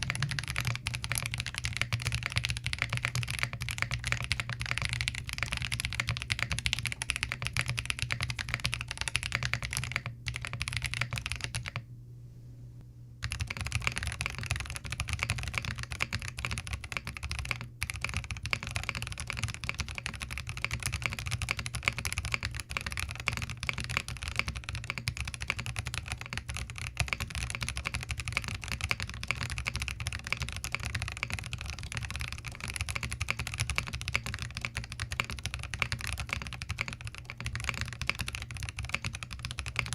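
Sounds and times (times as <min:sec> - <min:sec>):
mechanical keyboard typing: 0:00.0 - 0:11.8, 0:13.2 - 0:39.9.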